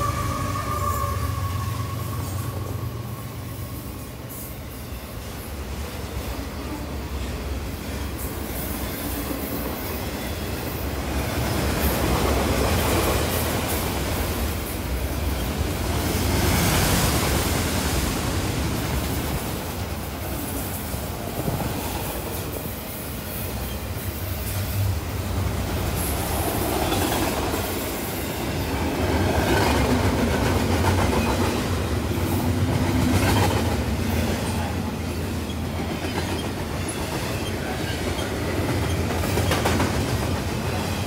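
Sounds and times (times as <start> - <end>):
freight train rolling past: 0.0 - 41.0
steel wheels rumbling on rails: 0.0 - 41.0.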